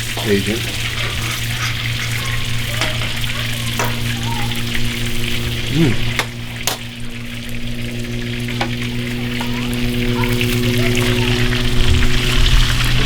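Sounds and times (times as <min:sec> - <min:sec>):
low hum: 0:00.0 - 0:13.0
steak sizzling in hot oil: 0:00.0 - 0:13.0.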